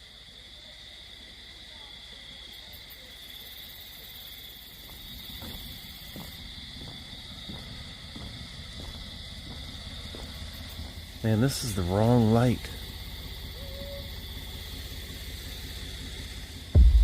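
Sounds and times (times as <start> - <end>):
high insect chorus: 0.0 - 17.0.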